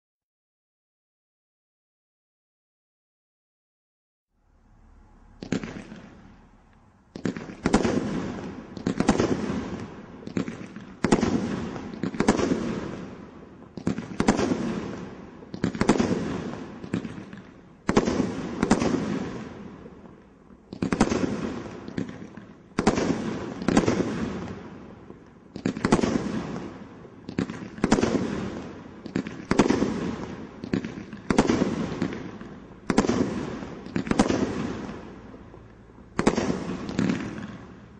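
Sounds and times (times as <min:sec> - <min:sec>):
firework shots banging: 0:05.3 - 0:37.9.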